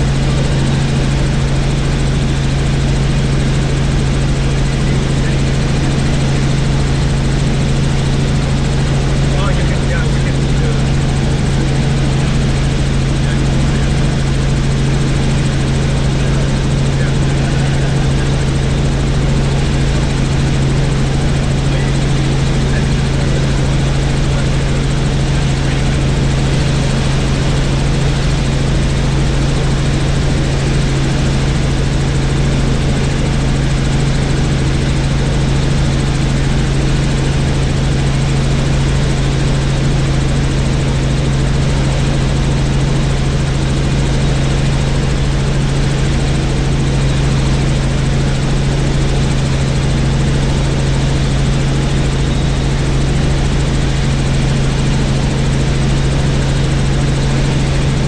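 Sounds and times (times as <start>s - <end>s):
helicopter drone: 0.0s - 58.0s.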